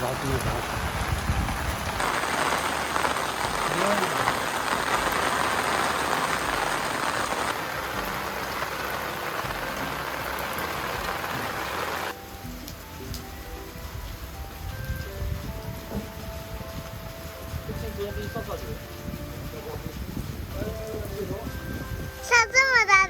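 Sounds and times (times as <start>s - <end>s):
heavy rain falling: 0.0s - 23.0s
soft background music: 2.2s - 23.0s.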